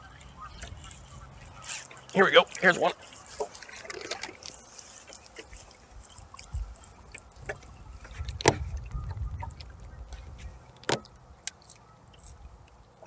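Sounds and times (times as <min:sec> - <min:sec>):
light water splashing: 0:00.0 - 0:13.0.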